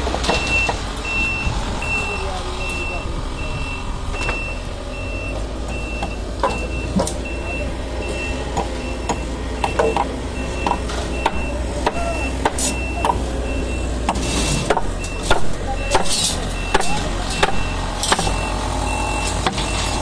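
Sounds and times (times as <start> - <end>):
low engine rumble: 0.0 - 20.0
backup alarm beeping: 0.4 - 14.4, 15.0 - 20.0.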